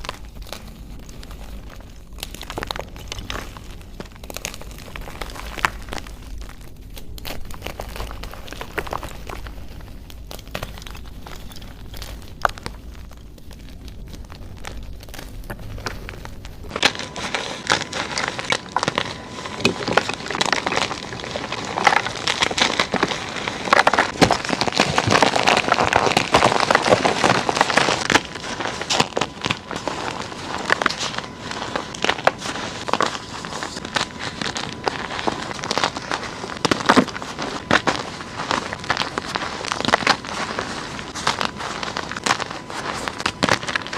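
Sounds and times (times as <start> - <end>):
chalk crushed and crumbled: 0.0 - 43.9.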